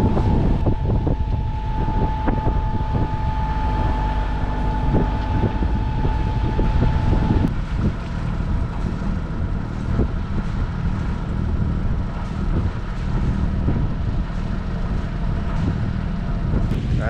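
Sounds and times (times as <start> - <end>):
diesel boat engine running: 0.0 - 17.0
wind buffeting microphone: 0.0 - 17.0.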